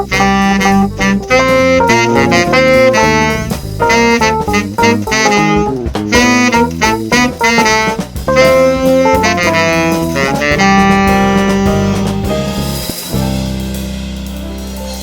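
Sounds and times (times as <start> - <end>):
jazz saxophone: 0.0 - 15.0
musical accompaniment: 0.0 - 15.0.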